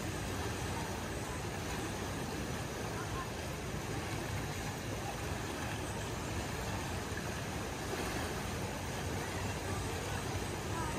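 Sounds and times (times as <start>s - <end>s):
muddy water rushing: 0.0s - 10.9s.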